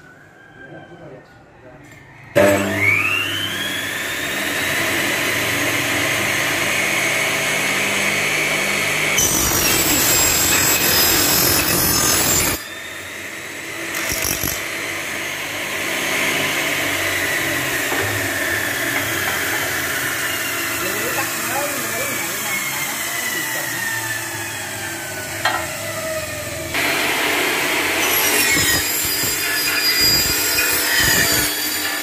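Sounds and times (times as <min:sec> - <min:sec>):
saw motor whining: 0:02.1 - 0:32.0
blade cutting aluminium: 0:02.4 - 0:23.7, 0:26.7 - 0:32.0.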